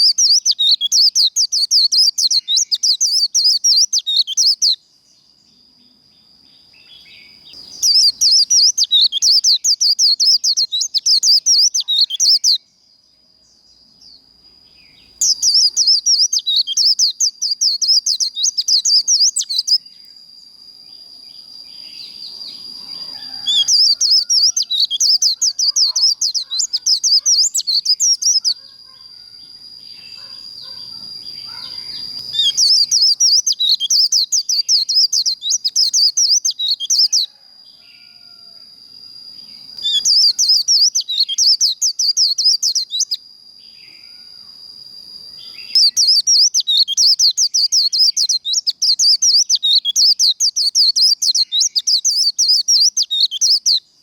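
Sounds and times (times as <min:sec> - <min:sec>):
bird singing rapid high chatter: 0:00.0 - 0:05.3, 0:06.2 - 0:12.8, 0:13.5 - 0:20.2, 0:21.2 - 0:38.4, 0:39.3 - 0:44.4, 0:45.2 - 0:54.0
thin steady high tone: 0:00.0 - 0:54.0.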